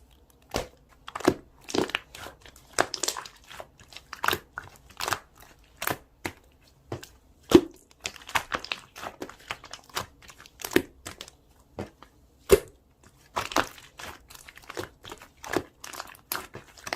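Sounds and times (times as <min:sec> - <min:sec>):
slime popping and crackling: 0:00.4 - 0:06.0, 0:07.5 - 0:11.3, 0:12.5 - 0:16.9.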